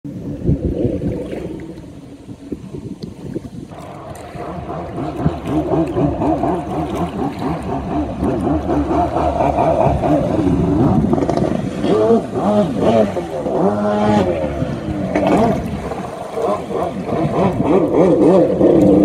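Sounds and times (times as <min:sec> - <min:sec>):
jet ski engine revving: 0:00.1 - 0:19.0.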